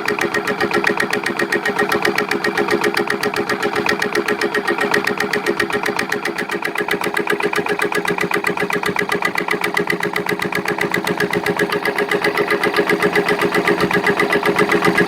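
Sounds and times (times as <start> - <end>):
diesel engine running generator: 0.0 - 15.0.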